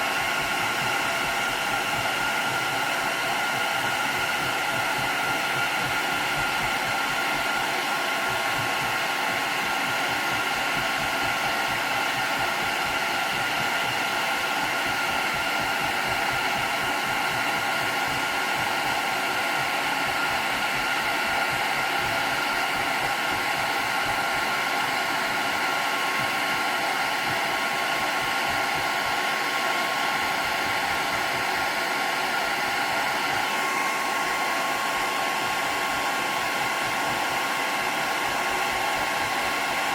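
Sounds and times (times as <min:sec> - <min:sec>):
hairdryer blowing: 0:00.0 - 0:39.9.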